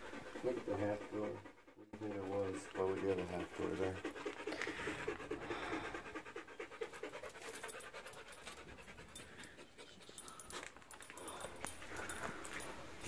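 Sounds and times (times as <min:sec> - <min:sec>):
rapid rhythmic panting: 0:00.0 - 0:13.0.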